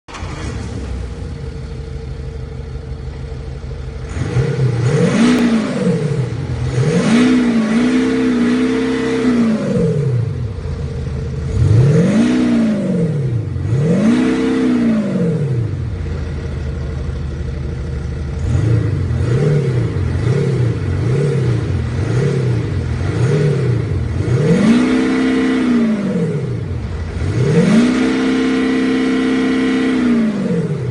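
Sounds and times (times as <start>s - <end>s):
diesel engine idling and revving: 0.0s - 30.9s.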